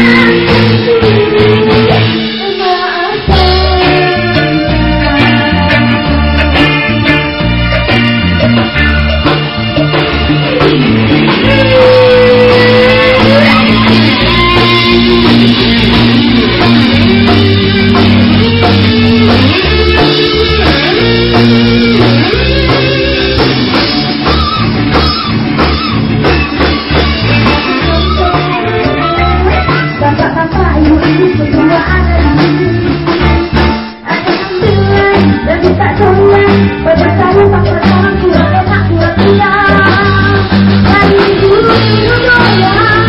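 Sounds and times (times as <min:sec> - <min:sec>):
guitar-led band music: 0:00.0 - 0:43.0.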